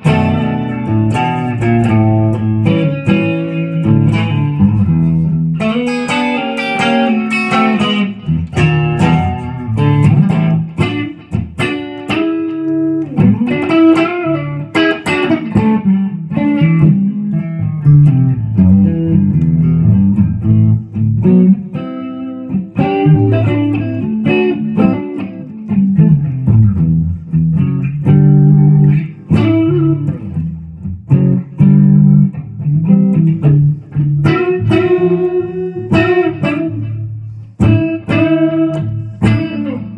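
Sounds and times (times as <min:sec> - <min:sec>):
loud electric guitar riffs: 0:00.0 - 0:39.9.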